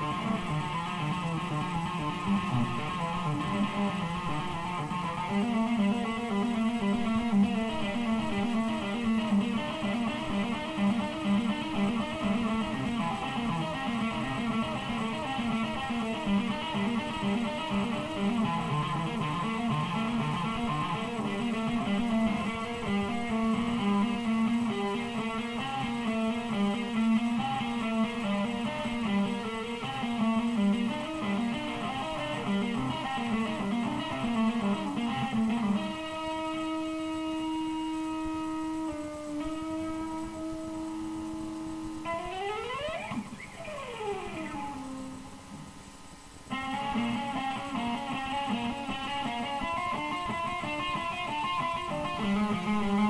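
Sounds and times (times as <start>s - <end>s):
electric guitar quick picked notes: 0.0s - 45.7s.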